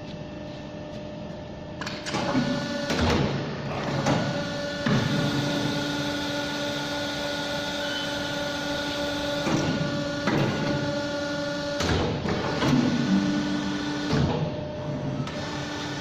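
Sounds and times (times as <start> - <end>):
machine motor hum: 0.0 - 16.0.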